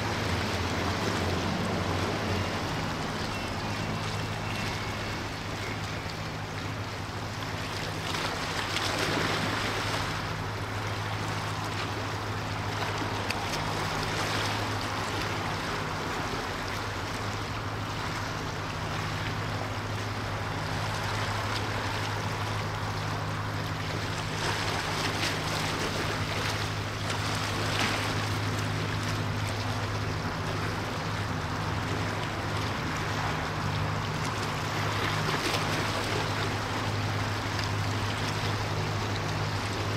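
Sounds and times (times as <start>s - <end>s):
ship engine drone: 0.0s - 39.9s
water rushing: 0.0s - 39.9s
wind: 0.0s - 39.9s.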